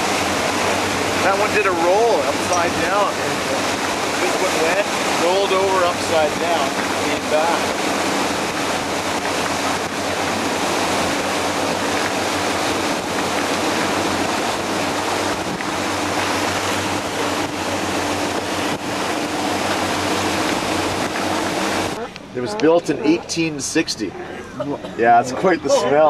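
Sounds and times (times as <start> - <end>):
boat engine humming: 0.0 - 26.0
water and wind rushing along hull: 0.0 - 26.0.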